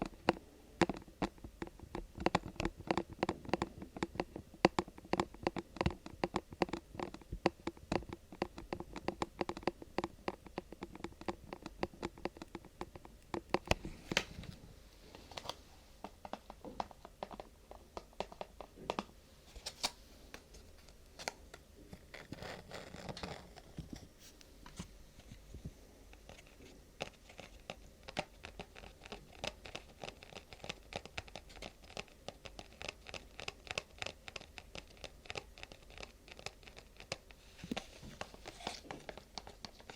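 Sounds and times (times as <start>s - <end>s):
fingertips scratching and crinkling: 0.0s - 39.9s.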